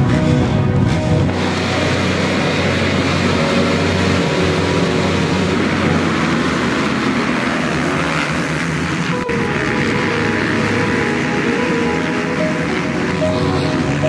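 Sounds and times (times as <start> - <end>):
dirt bikes revving and accelerating: 0.0 - 14.0.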